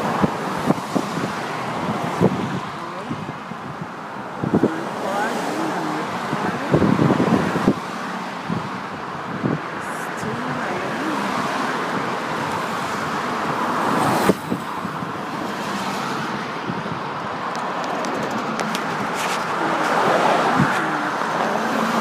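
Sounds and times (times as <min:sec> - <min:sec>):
car engine: 0:00.0 - 0:22.0
tyre and wind road noise: 0:00.0 - 0:22.0.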